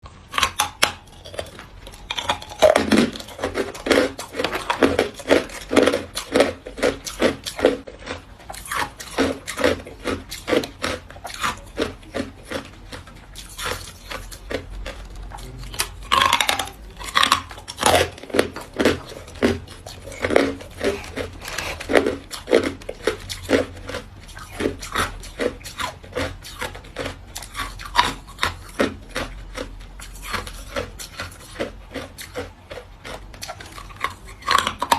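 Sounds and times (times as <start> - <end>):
ice being chewed: 0.0 - 34.9.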